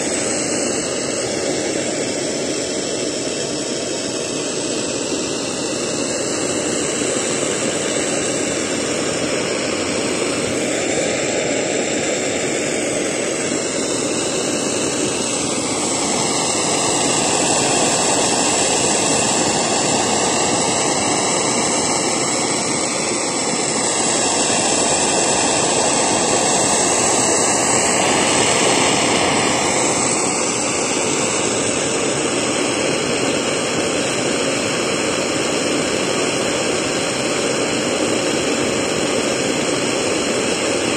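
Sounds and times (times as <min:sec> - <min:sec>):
blow torch flame hissing: 0:00.0 - 0:40.9.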